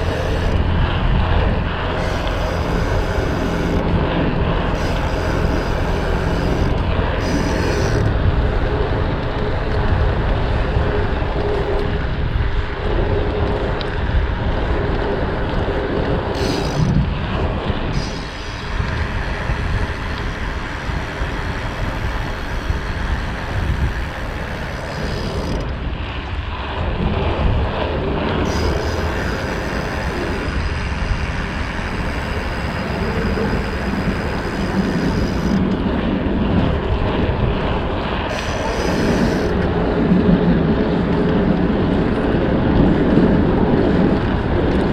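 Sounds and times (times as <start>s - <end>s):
wind on microphone: 0.0s - 44.9s.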